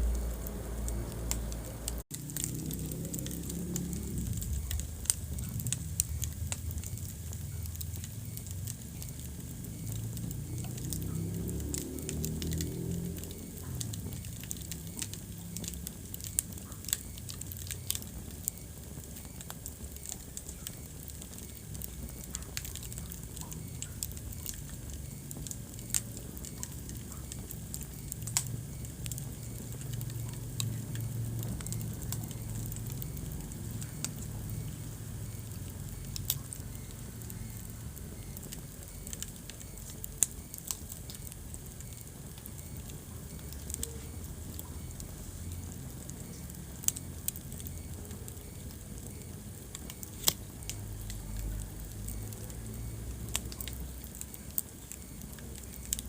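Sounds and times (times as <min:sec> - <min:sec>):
logs crackling and popping: 0:00.0 - 0:56.0
low rumble of flames: 0:00.0 - 0:56.0.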